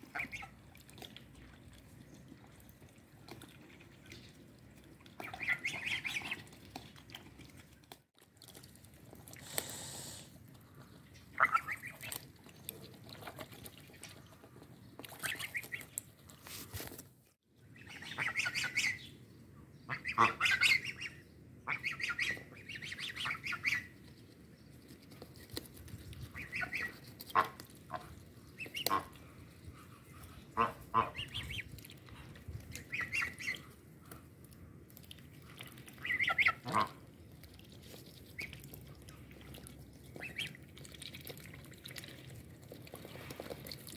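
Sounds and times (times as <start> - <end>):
bills dabbling wet clicking: 0.1 - 16.4, 22.6 - 43.9.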